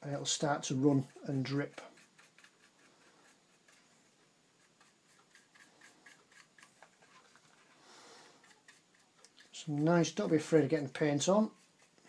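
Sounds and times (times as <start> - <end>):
paintbrush strokes on plastic: 0.0 - 12.0.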